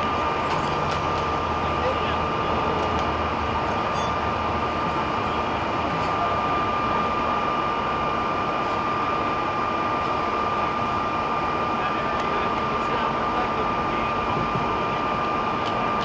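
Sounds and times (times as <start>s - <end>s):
high-pitched whine: 0.0s - 14.3s
traffic roar: 0.0s - 16.0s.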